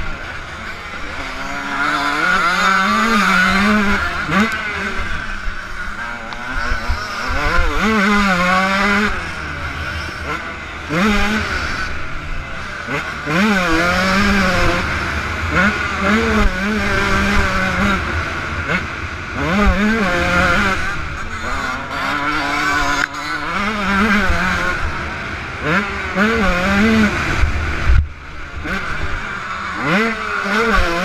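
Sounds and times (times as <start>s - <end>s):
motocross engine revving: 0.0s - 31.0s.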